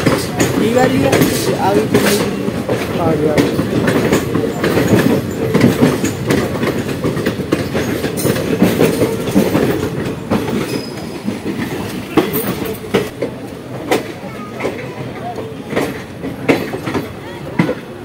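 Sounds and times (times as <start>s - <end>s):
train passing alongside: 0.0s - 18.0s
train rumble: 0.0s - 18.0s
wheels clattering over rail joints: 0.0s - 18.0s.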